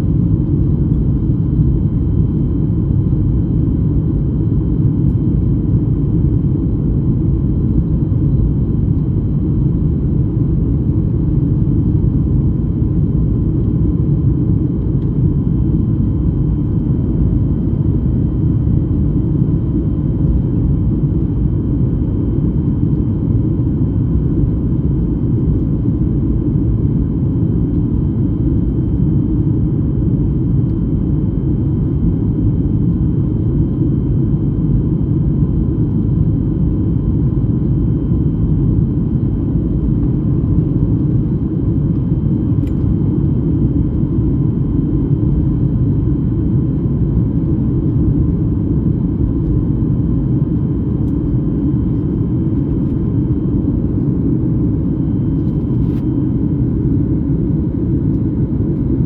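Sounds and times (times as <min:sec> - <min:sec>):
airliner engine drone: 0:00.0 - 0:59.0.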